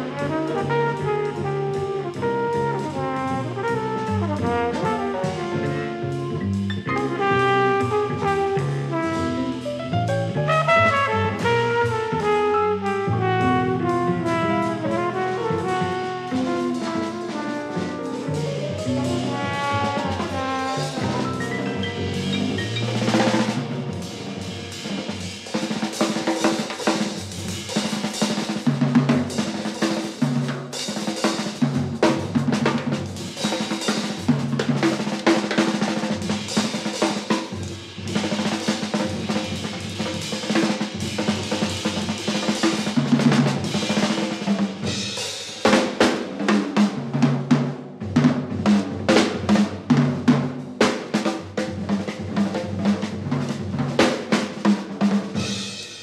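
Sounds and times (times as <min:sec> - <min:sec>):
drum kit playing: 0:00.0 - 0:56.0
jazz band playing: 0:00.0 - 0:56.0.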